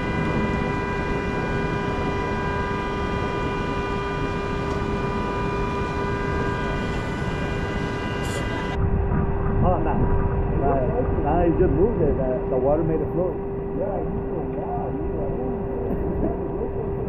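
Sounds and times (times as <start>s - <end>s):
constant hum: 0.0s - 17.0s.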